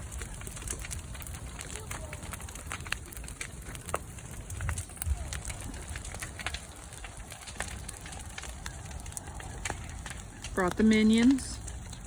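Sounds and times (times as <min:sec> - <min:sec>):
brush fire crackling and popping: 0:00.0 - 0:12.0.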